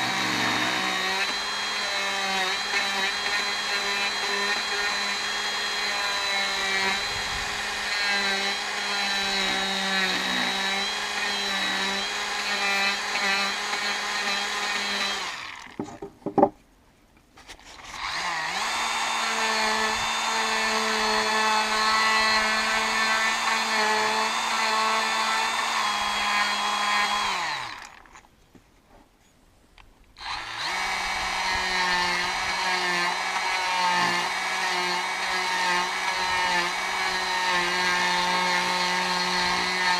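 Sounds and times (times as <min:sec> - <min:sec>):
die grinder whining: 0:00.0 - 0:15.9, 0:17.7 - 0:28.2, 0:30.2 - 0:39.9.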